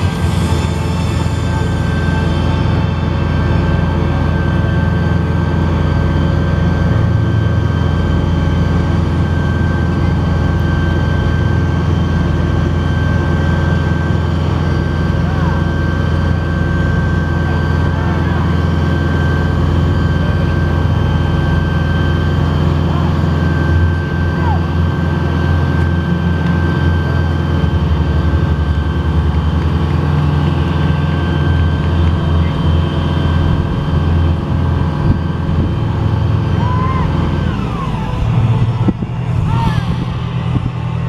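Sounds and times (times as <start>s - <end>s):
diesel engine running: 0.0s - 41.0s
steady high whine: 0.0s - 41.0s.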